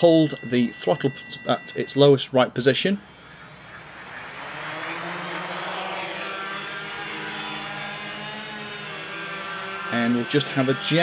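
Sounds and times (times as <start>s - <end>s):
quadcopter motors whirring: 0.0s - 2.2s, 2.8s - 11.0s.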